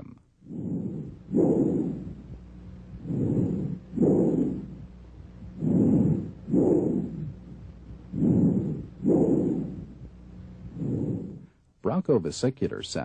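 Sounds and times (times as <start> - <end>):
breathing through stethoscope: 0.5 - 11.6.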